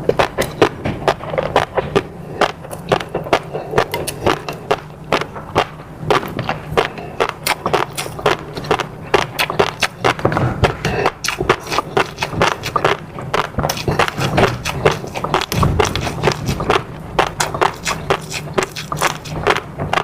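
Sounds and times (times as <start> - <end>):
chewing and wet mouth sounds: 0.0 - 20.0.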